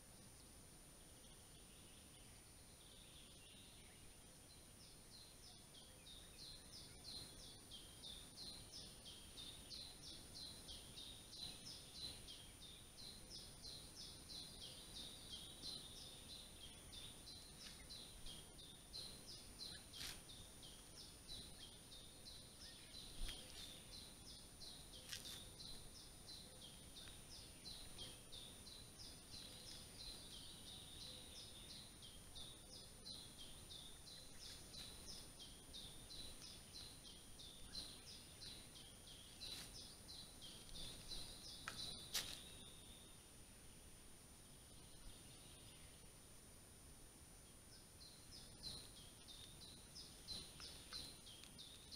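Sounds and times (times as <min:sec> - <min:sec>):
small bird chirping: 0:00.2 - 0:43.3, 0:47.4 - 0:51.9.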